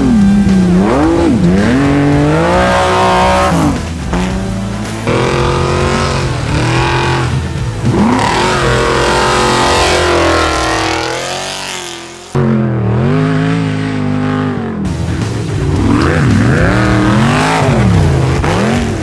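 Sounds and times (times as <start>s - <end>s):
dull car engine: 0.0s - 19.0s
racing car engines revving: 0.0s - 19.0s.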